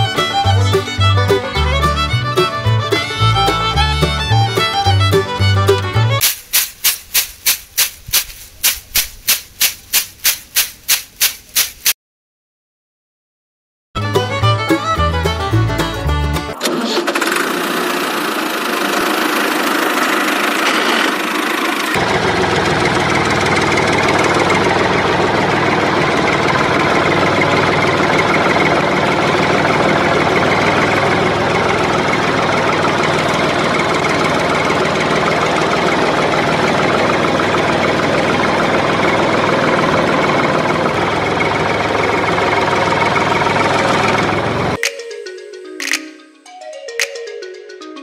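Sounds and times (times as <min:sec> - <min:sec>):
tractor engine running: 0:00.0 - 0:12.0, 0:14.0 - 0:46.3.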